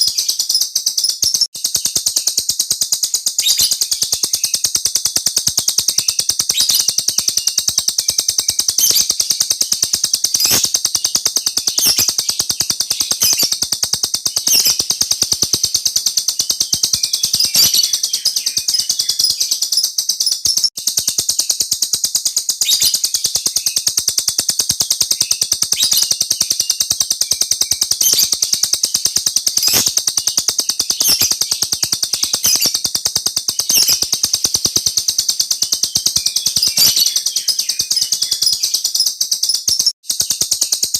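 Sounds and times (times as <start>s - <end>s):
songbird trilling: 0.0s - 24.0s, 24.7s - 39.9s.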